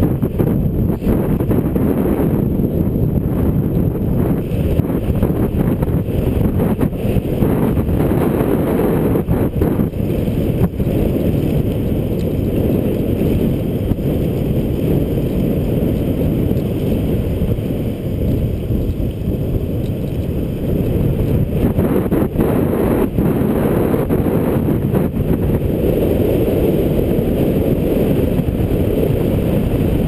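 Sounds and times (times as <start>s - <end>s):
wind rushing on microphone: 0.0s - 30.0s.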